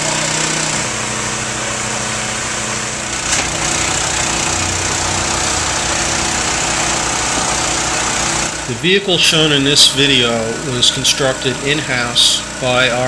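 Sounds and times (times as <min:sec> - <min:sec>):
cement mixer truck running: 0:00.0 - 0:13.0.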